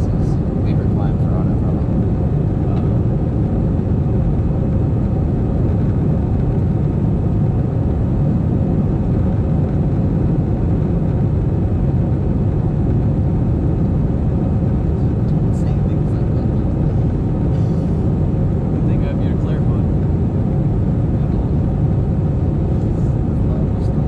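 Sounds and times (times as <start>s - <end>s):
jet engine cabin rumble: 0.0s - 24.0s.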